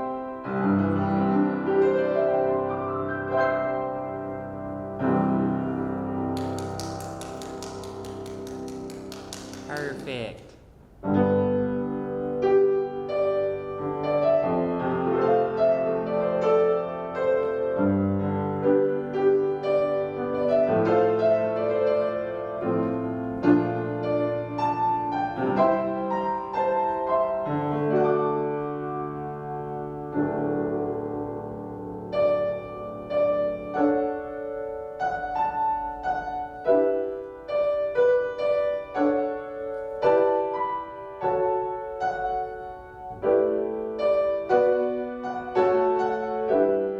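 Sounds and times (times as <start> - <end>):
solo piano chords: 0.0 - 9.7, 11.0 - 46.9.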